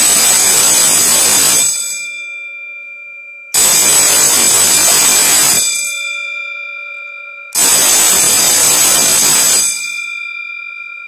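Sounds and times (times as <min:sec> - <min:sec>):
electric bell ringing: 0:00.0 - 0:11.0.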